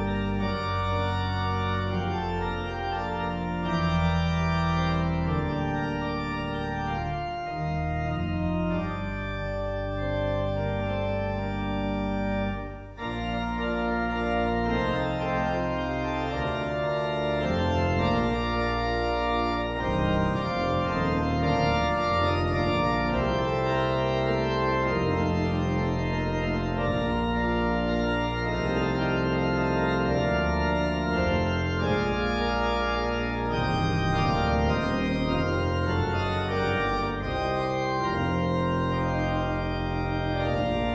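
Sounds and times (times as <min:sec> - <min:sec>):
organ music: 0:00.0 - 0:40.9.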